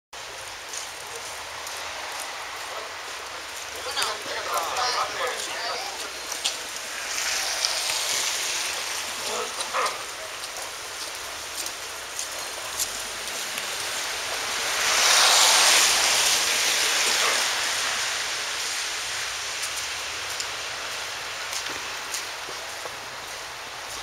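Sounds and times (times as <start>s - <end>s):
hiss of wet snow falling: 0.2s - 24.0s.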